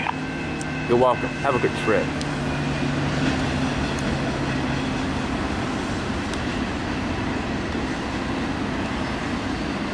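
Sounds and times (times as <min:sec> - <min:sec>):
train wheels on rails: 0:00.0 - 0:09.9.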